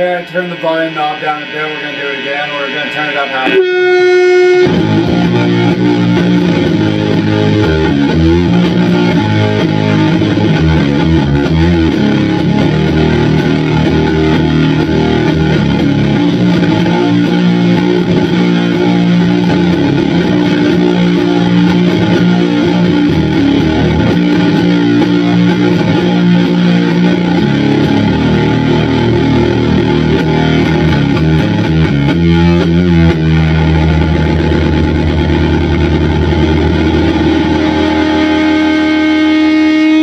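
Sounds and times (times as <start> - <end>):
fuzzy electric guitar: 0.0 - 40.0.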